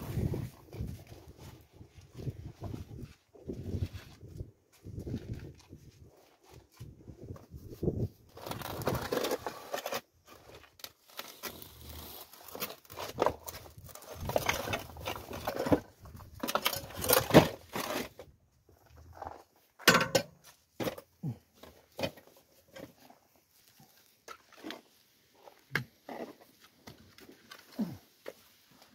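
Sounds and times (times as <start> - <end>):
rustling and crinkling coverall: 0.0 - 19.8, 20.4 - 28.9.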